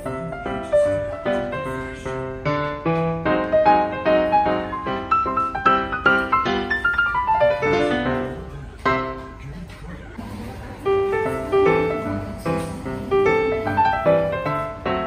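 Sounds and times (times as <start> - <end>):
solo piano music: 0.0 - 9.4, 10.8 - 15.0.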